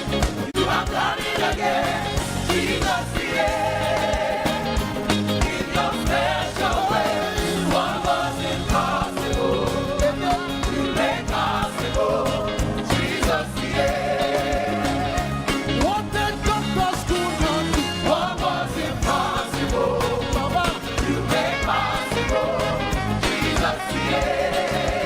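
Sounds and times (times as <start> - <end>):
steady drum beat: 0.0 - 25.0
voices singing praise chorus: 0.0 - 25.0.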